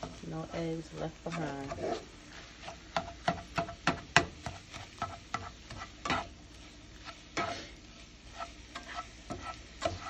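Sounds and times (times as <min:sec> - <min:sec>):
faint frying sizzle: 0:00.0 - 0:10.0
spatula scraping frying pan: 0:00.0 - 0:10.0.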